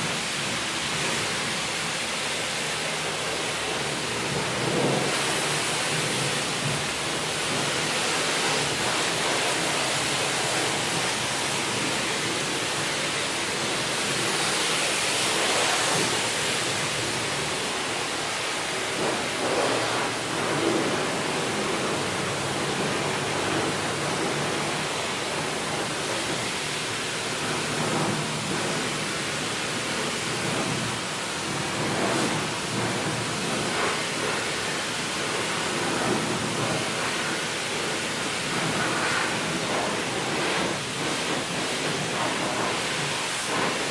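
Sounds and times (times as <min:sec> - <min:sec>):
pressure washer spraying water: 0:00.0 - 0:43.9
water drumming on car: 0:00.0 - 0:43.9.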